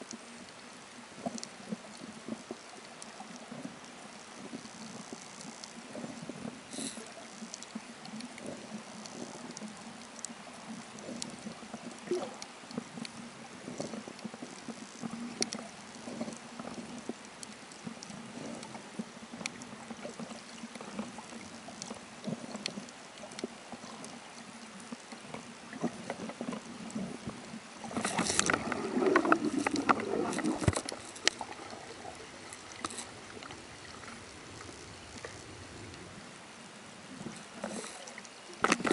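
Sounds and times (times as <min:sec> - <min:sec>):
small clicks and crackles: 0:00.0 - 0:36.4, 0:37.0 - 0:38.9
bubbling and sloshing water: 0:00.0 - 0:38.9
underwater water wash: 0:00.0 - 0:38.9.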